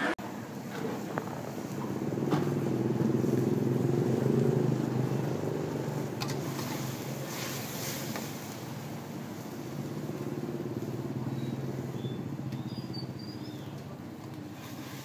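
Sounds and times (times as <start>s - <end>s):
vehicle engine passing by: 0.7s - 15.0s.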